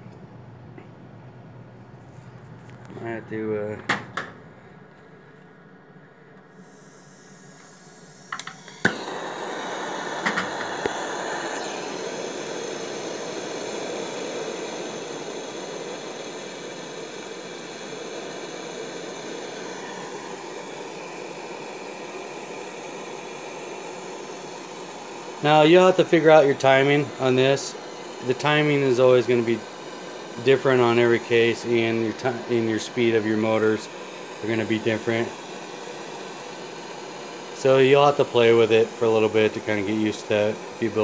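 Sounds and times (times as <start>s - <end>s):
torch flame hissing: 6.4s - 41.0s.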